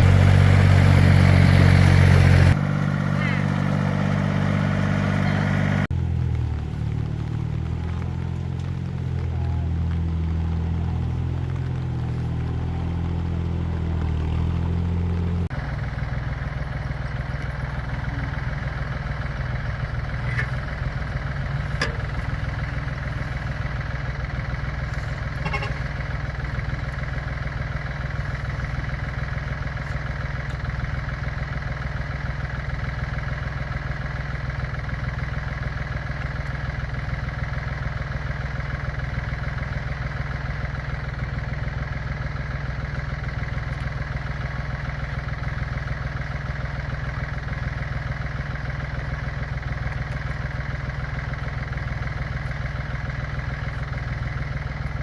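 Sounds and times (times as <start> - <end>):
farm machine engine running: 0.0 - 55.0.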